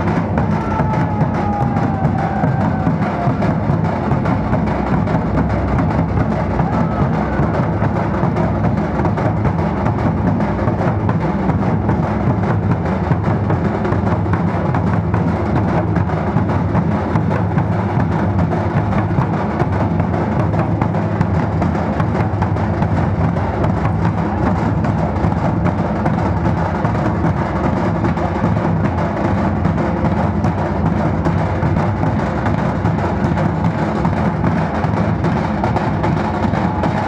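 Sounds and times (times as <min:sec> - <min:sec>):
barrel drums: 0:00.0 - 0:37.0
stick-beaten kettle drums: 0:00.0 - 0:37.0.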